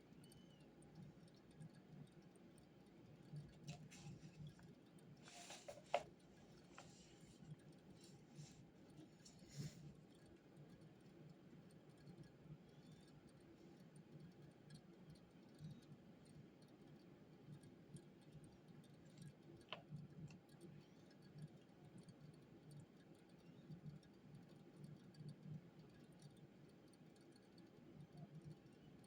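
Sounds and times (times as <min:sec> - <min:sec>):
light ticks: 0:00.0 - 0:29.0.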